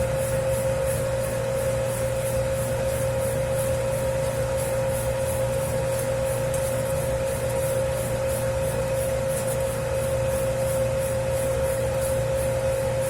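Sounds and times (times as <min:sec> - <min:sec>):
dough mixer motor hum: 0:00.0 - 0:13.0.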